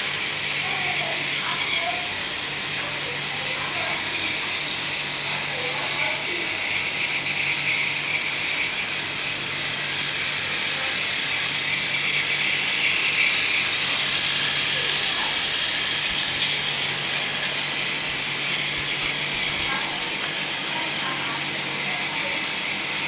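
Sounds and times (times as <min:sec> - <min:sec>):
toy train motor whirring: 0:00.0 - 0:23.0.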